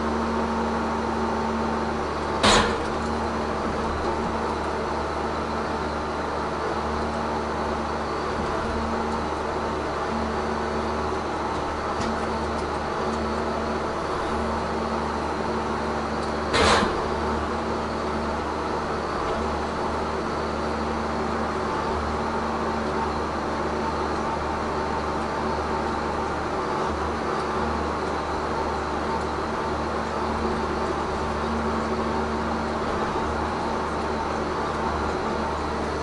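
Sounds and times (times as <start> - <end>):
engine and hydraulics drone: 0.0 - 36.0.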